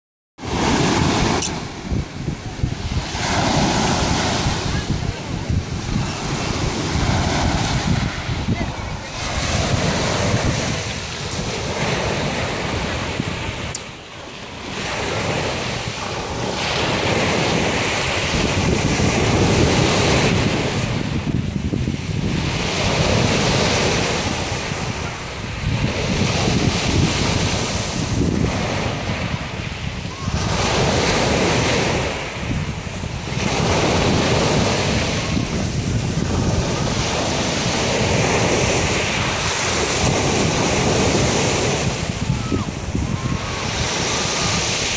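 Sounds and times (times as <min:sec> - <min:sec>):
wind buffeting microphone: 0:00.4 - 0:14.0, 0:14.6 - 0:44.9.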